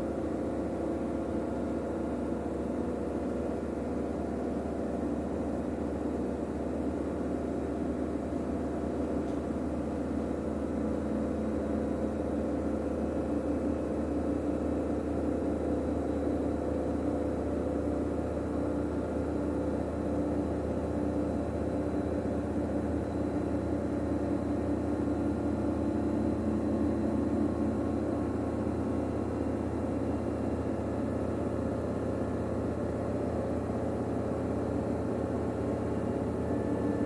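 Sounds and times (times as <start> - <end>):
washing machine spinning: 7.2 - 37.0.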